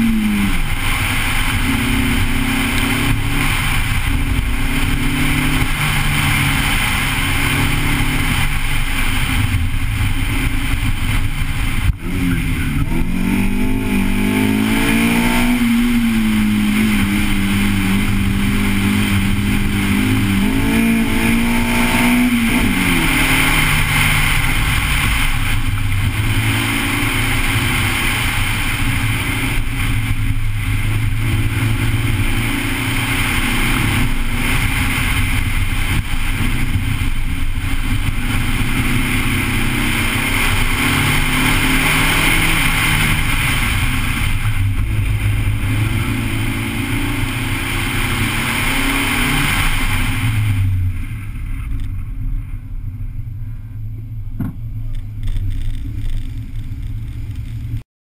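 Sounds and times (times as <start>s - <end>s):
car engine revving hard: 0.0s - 51.8s
wind rush and road hiss: 0.0s - 57.8s.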